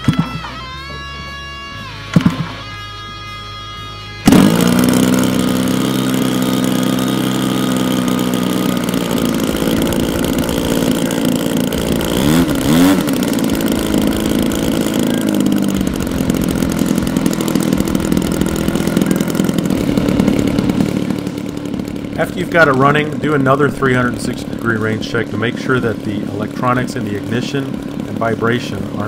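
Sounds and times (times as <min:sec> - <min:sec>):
model plane engine running and revving: 0:00.0 - 0:29.0.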